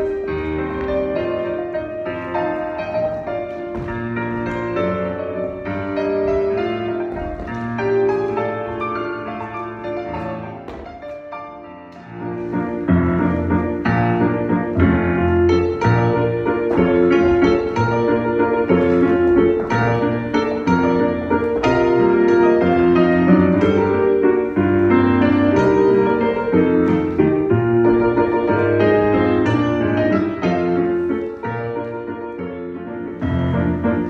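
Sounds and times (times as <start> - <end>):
classical solo piano music: 0.0 - 34.0.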